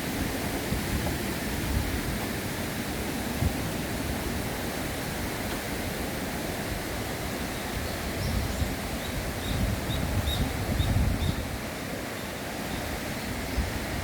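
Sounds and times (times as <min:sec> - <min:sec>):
wind rumbling on microphone: 0:00.0 - 0:05.3, 0:06.6 - 0:12.1, 0:12.7 - 0:14.0.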